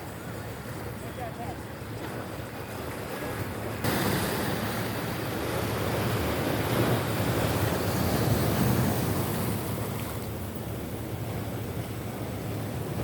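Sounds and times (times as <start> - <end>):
sea surf washing ashore: 0.0 - 13.0.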